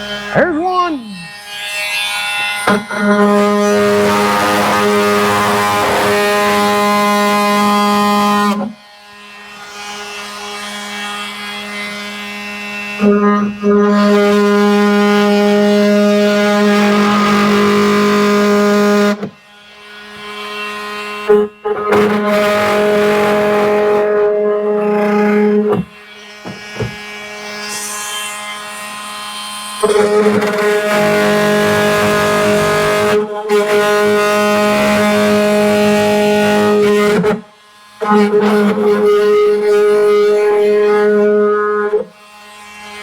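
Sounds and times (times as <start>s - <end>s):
power tool cutting plastic: 0.0s - 43.0s.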